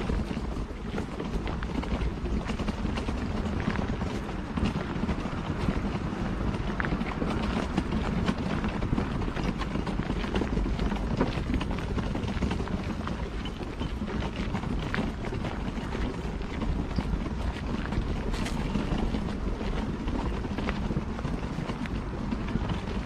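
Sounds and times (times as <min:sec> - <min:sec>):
footsteps crunching on gravel: 0:00.0 - 0:20.8
wind rumble on microphone: 0:00.0 - 0:23.0.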